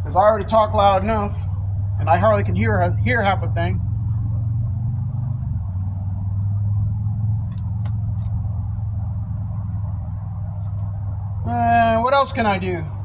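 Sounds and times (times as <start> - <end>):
low machine rumble: 0.0 - 13.0.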